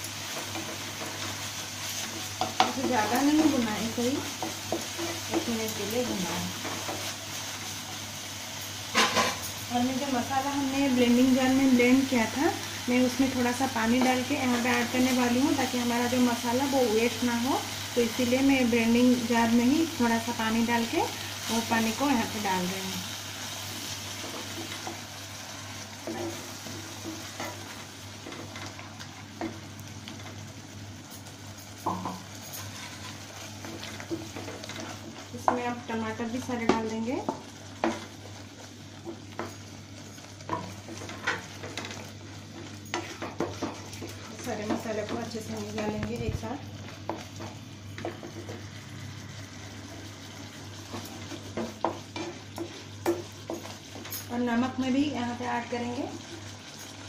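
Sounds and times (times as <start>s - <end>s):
paste sizzling in a frying pan: 0.0s - 57.0s.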